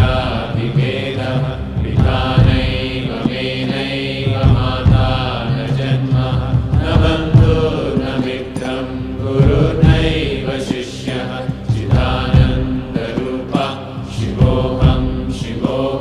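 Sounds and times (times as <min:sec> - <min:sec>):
instrumental accompaniment: 0:00.0 - 0:16.0
low drone: 0:00.0 - 0:16.0
person singing devotional chant: 0:00.0 - 0:16.0.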